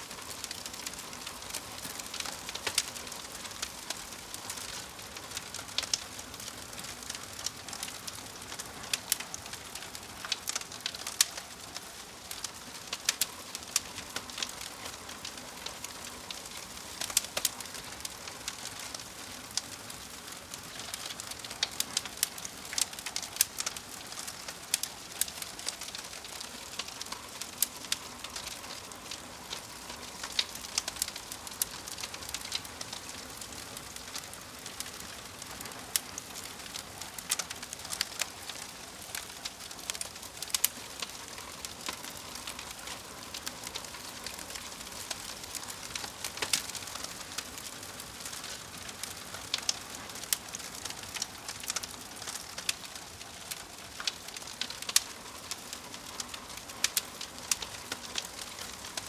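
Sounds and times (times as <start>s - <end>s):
logs crackling and popping: 0.0s - 59.0s
soft fire hiss: 0.0s - 59.0s.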